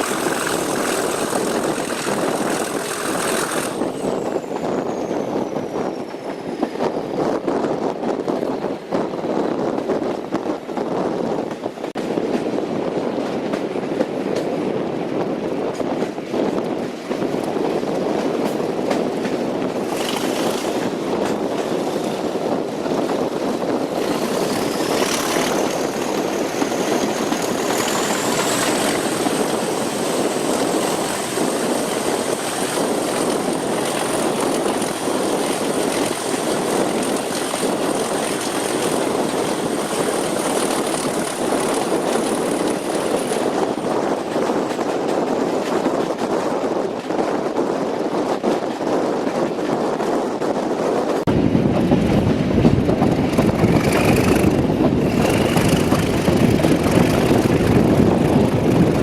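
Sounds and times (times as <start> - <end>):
diesel locomotive running: 0.0 - 59.0.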